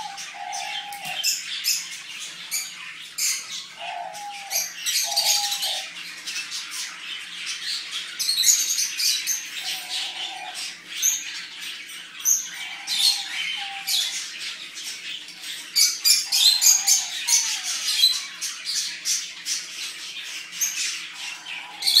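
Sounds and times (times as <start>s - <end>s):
animals chirping and squawking: 0.0s - 22.0s.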